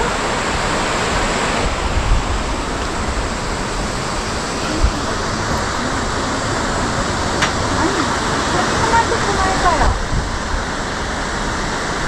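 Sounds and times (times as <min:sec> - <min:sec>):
low rumbles: 0:00.0 - 0:12.0
wind buffeting microphone: 0:00.0 - 0:12.0.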